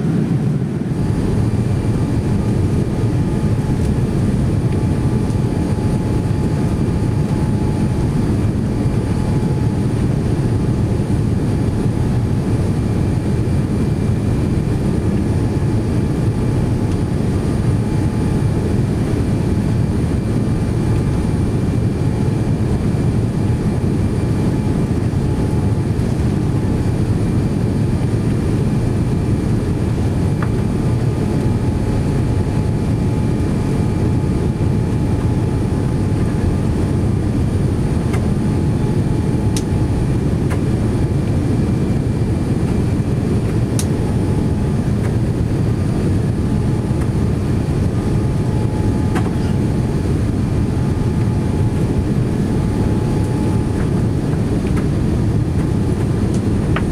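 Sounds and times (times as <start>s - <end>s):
airplane engine rumble in cabin: 0.0s - 56.9s
faint steady whine: 0.0s - 56.9s.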